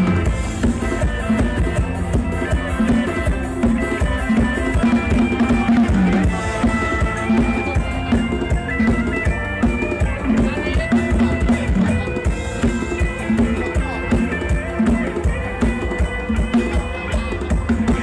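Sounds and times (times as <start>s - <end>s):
loud music with drums and bass: 0.0s - 18.0s.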